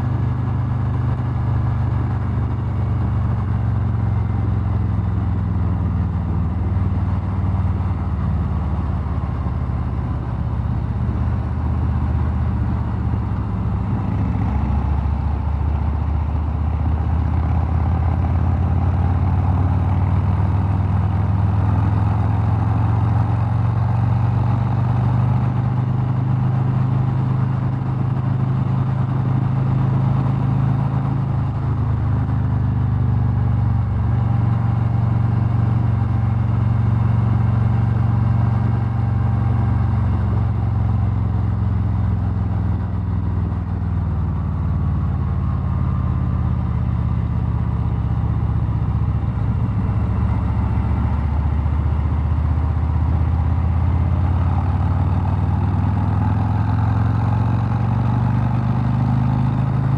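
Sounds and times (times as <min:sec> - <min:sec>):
motorcycle engine cruising: 0:00.0 - 0:59.9
road and wind noise: 0:00.0 - 0:59.9.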